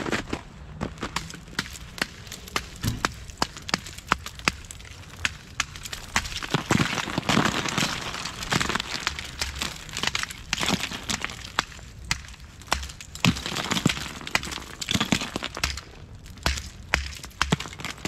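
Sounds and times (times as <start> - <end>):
ice cracking and breaking: 0.9 - 18.0.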